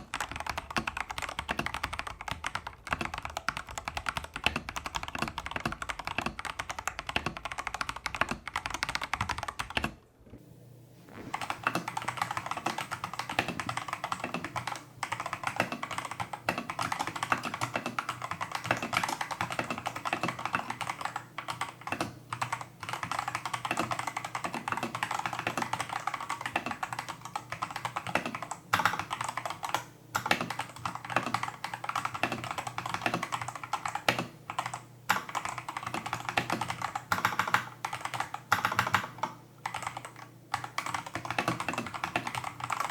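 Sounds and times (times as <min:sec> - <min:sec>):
mechanical keyboard fast typing: 0:00.0 - 0:10.0, 0:11.3 - 0:42.9.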